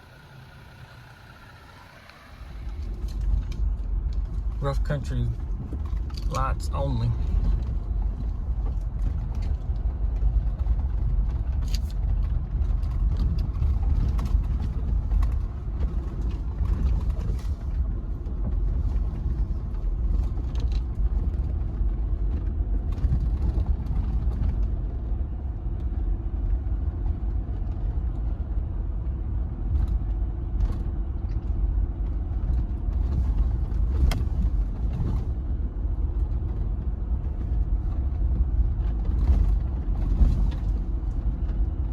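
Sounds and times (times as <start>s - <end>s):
engine rumbling: 0.0s - 41.9s.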